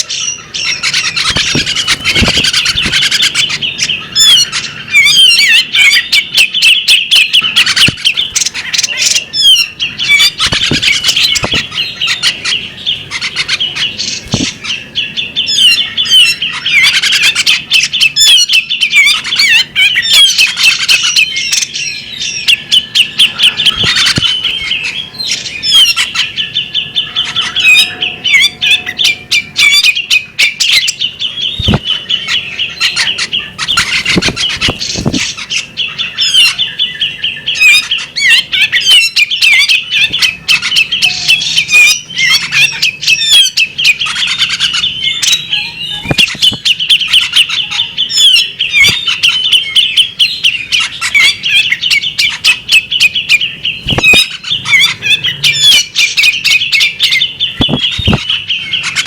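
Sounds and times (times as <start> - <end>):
bird singing chirps and trills: 0.0 - 59.0.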